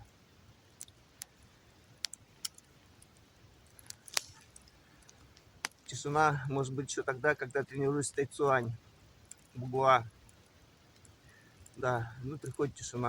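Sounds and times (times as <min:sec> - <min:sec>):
campfire crackling and popping: 0:00.0 - 0:13.0
faint steady hush: 0:00.0 - 0:13.0.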